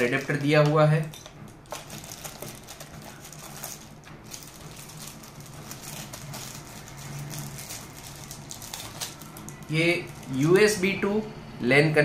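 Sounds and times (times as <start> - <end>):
plastic bags crinkling: 0.0 - 10.8.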